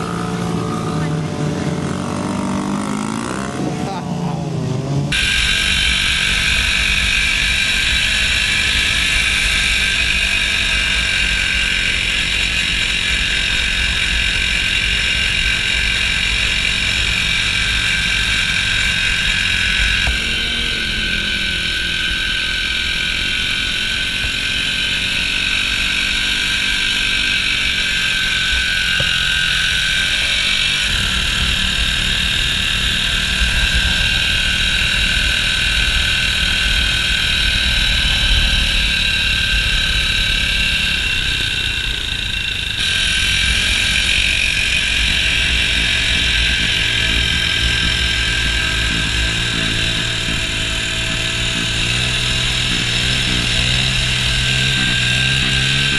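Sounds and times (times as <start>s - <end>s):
mini bike engines running: 0.0s - 55.9s.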